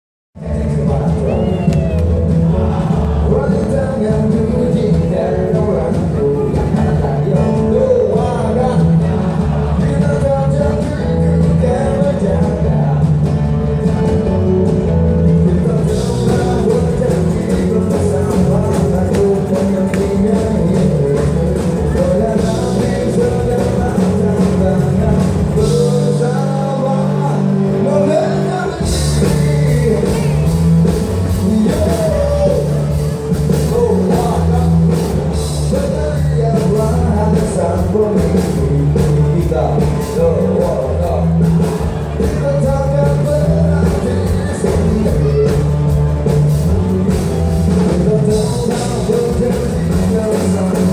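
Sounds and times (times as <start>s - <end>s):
live rock band: 0.4s - 50.9s
man singing lead vocal: 0.4s - 50.9s.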